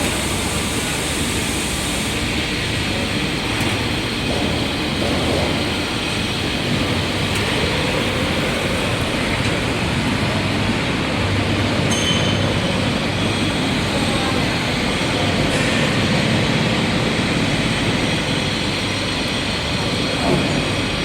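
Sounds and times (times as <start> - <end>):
roll forming machine rumbling: 0.0 - 21.0.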